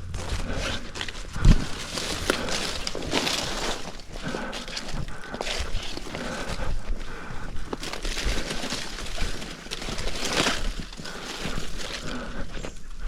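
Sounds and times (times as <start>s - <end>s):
footsteps crunching on dirt: 0.0s - 13.0s.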